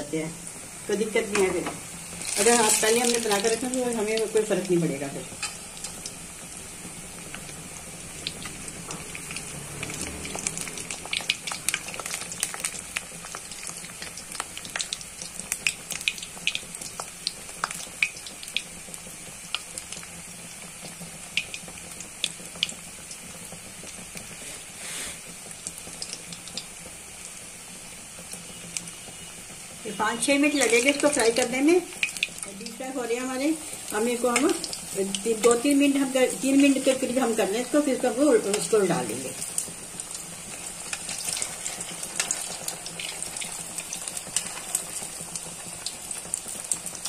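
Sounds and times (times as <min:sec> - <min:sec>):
food deep-frying in oil: 0:00.0 - 0:47.0
oil crackling and popping: 0:01.2 - 0:47.0.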